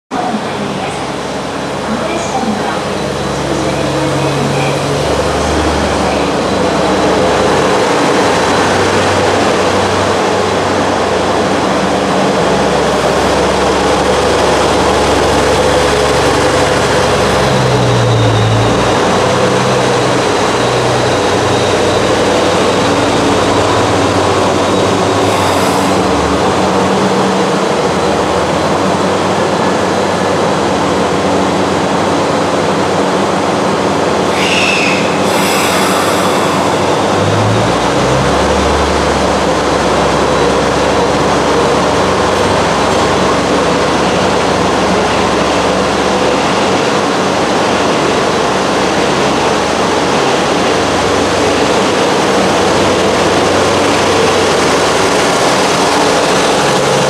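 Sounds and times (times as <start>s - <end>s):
diesel train engine running: 0.2s - 57.0s
train wheels rumbling: 0.3s - 31.9s, 33.9s - 57.0s.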